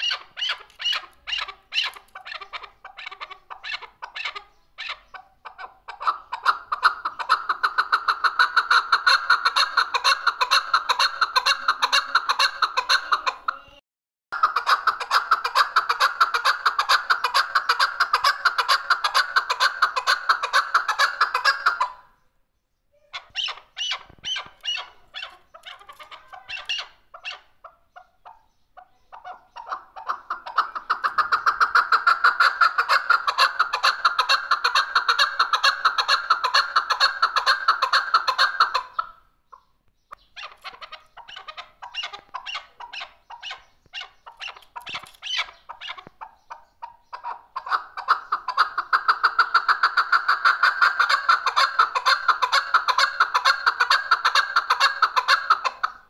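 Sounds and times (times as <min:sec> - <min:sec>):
partridge calling: 0:00.0 - 0:13.8, 0:14.4 - 0:22.3, 0:23.0 - 0:56.0.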